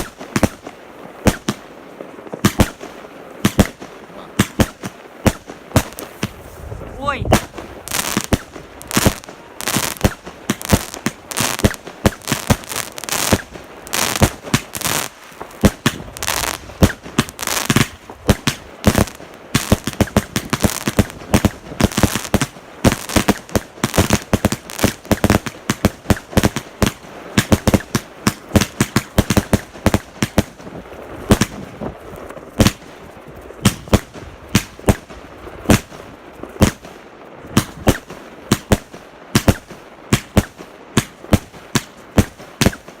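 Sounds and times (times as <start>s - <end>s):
fireworks bangs and crackling: 0.0s - 43.0s.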